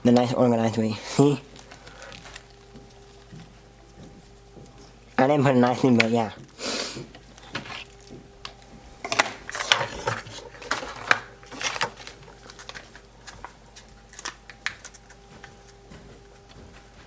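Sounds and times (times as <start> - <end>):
packaging rustling: 1.2 - 5.0, 6.4 - 17.0.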